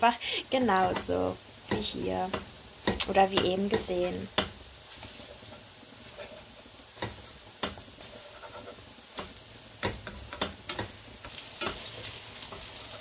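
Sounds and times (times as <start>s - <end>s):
pancake sizzling in a frying pan: 0.0s - 13.0s.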